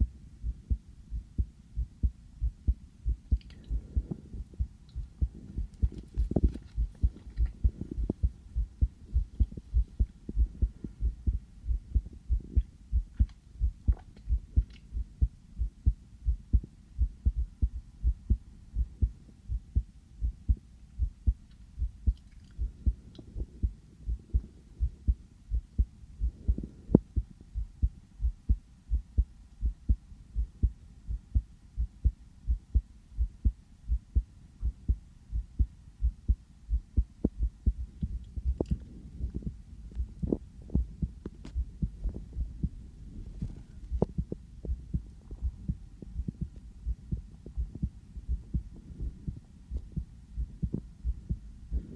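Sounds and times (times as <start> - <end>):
heartbeat through stethoscope: 0.0 - 51.9.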